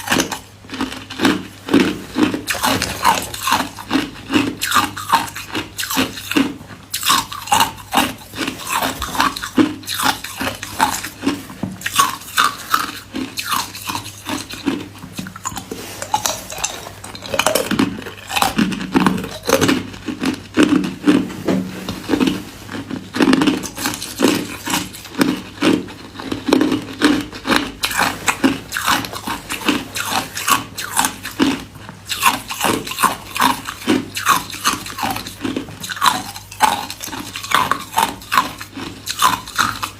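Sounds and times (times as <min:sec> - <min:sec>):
person chewing ice cubes: 0:00.0 - 0:39.9.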